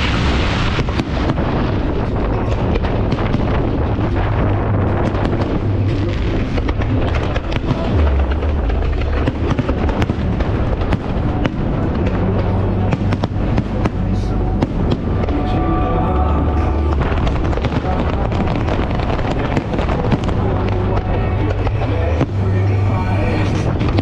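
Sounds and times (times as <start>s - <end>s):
fireworks cracking and popping: 0.0s - 24.0s.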